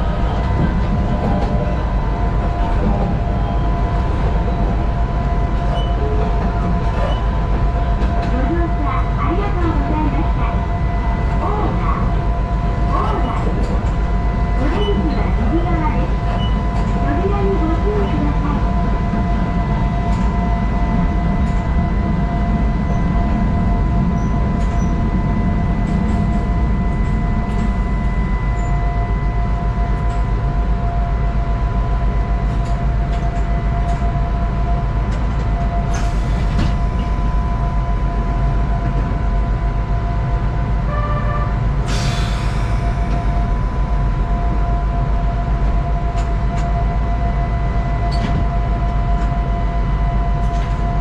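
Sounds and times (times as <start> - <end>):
electric train rumble: 0.0 - 51.0.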